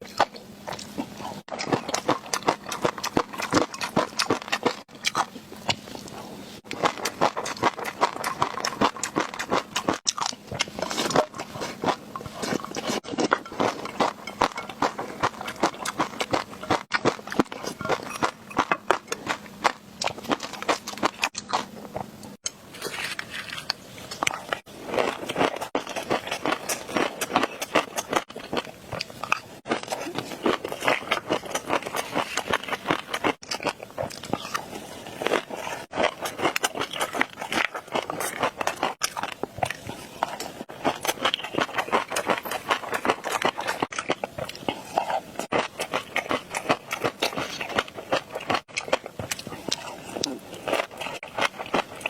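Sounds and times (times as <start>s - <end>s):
close crunchy chewing: 0.0s - 52.0s.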